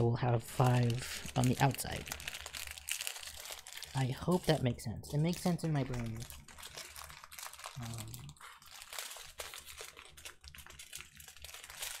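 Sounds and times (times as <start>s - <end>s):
plastic bags crinkling: 0.6s - 12.0s.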